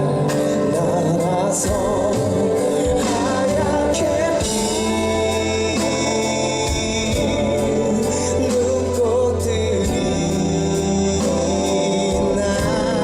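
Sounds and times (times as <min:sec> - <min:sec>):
bass line: 0:00.0 - 0:13.0
drum and cymbal hits: 0:00.0 - 0:13.0
man singing with vibrato: 0:00.0 - 0:13.0.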